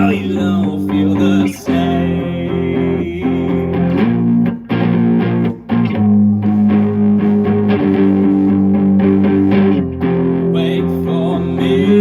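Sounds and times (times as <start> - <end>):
guitar chords strummed: 0.0 - 12.0.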